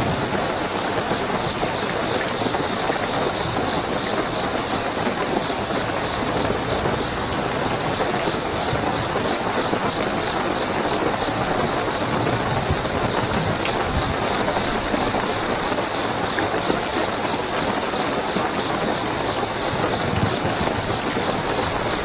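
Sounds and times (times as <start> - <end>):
heavy rainfall: 0.0 - 22.0
high-pitched cricket trill: 0.0 - 22.0.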